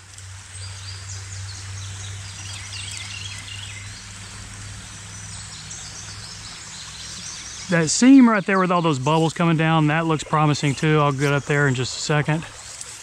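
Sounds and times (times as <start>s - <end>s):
creek water flowing: 0.0s - 13.0s
low steady hum: 0.0s - 13.0s
small birds chirping: 0.1s - 13.0s.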